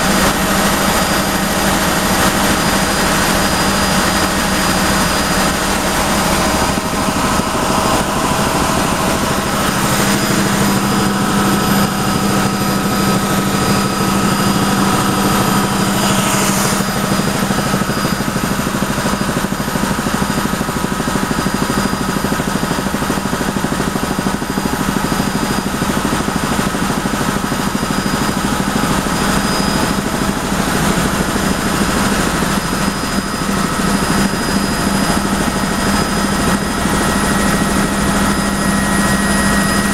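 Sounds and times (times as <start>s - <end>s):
constant high whine: 0.0s - 39.9s
helicopter engine and rotor noise: 0.0s - 39.9s.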